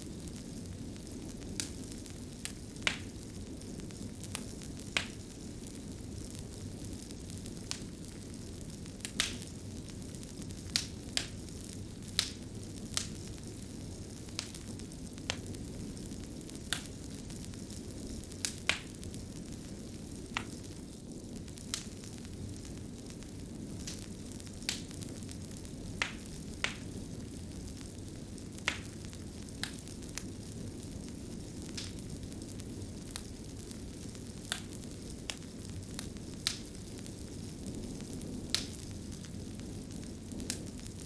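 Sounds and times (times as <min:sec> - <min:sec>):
fire crackles and pops: 0:00.0 - 0:41.0.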